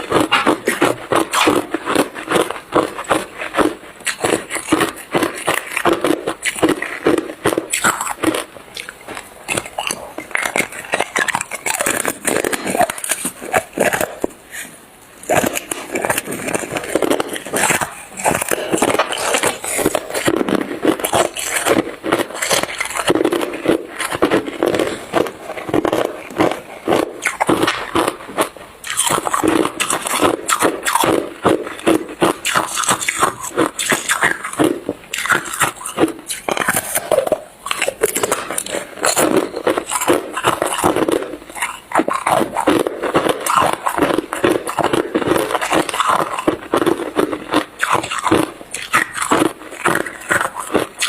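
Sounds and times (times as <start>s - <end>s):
ice being chewed: 0.0s - 51.0s.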